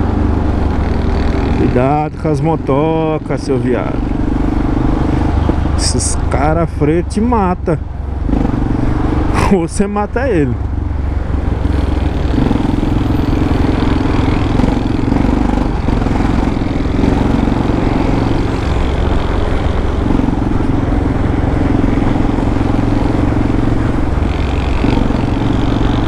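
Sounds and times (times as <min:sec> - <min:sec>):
motorcycle engine riding: 0:00.0 - 0:26.0.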